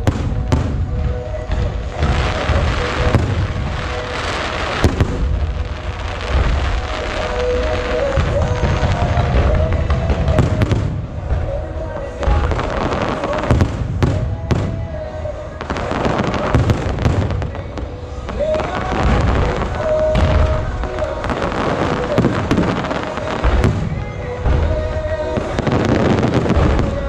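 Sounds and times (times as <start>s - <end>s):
firework shells bursting bangs: 0.0s - 15.0s, 15.6s - 27.0s
firework crackling: 0.0s - 27.0s.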